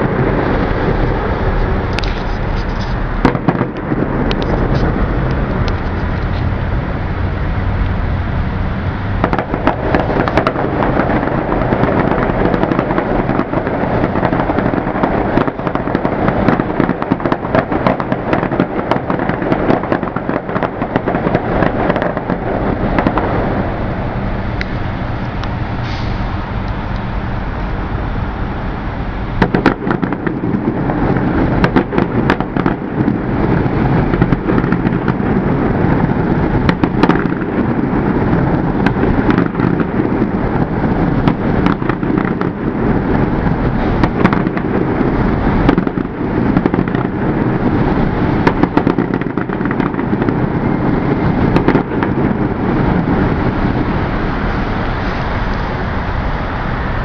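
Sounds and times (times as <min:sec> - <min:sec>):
fireworks bursting and banging: 0:00.0 - 0:57.0.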